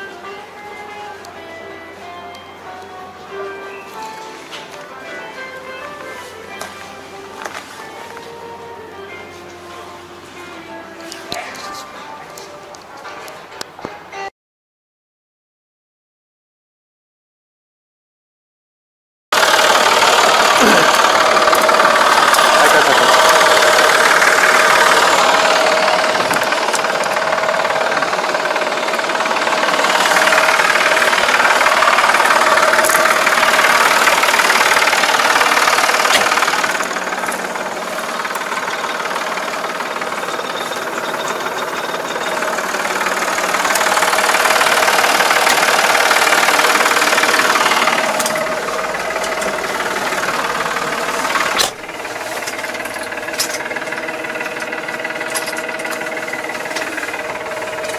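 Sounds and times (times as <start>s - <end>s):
tractor diesel engine running: 0.0s - 14.2s, 19.4s - 57.9s.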